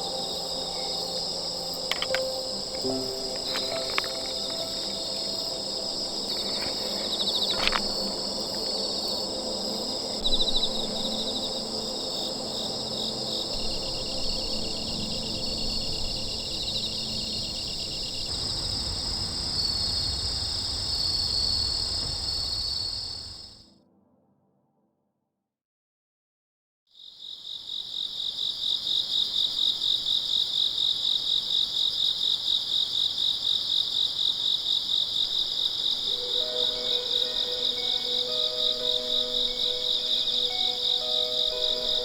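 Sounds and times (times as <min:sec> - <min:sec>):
crickets and insects chirring: 0:00.0 - 0:23.6, 0:27.0 - 0:42.0.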